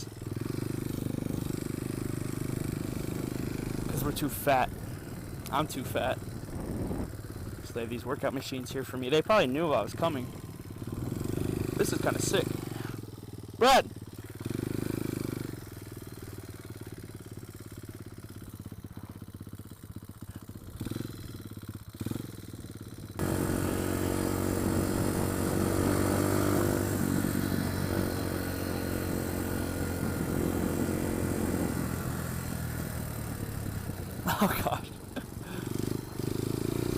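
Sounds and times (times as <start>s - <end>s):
pit bike engine: 0.0s - 36.9s.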